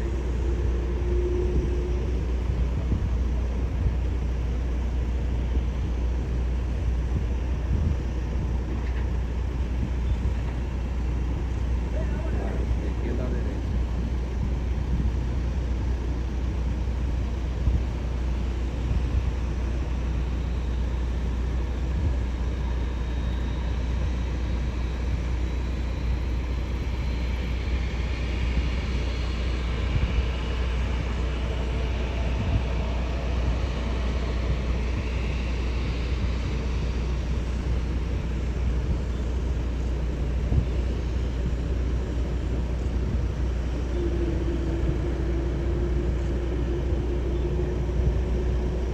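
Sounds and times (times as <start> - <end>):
jet airliner engine whine: 0.0 - 48.9
steady low rumble: 0.0 - 48.9.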